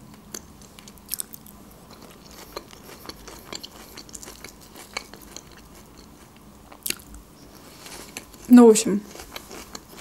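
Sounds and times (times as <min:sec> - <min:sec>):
person chewing salad: 0:00.1 - 0:10.0.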